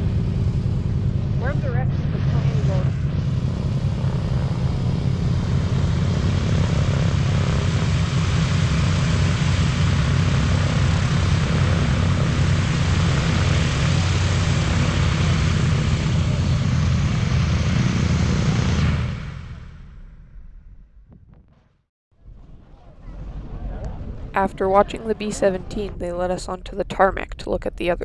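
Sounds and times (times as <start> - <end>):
propeller aircraft engines droning: 0.0 - 19.8, 22.4 - 28.0.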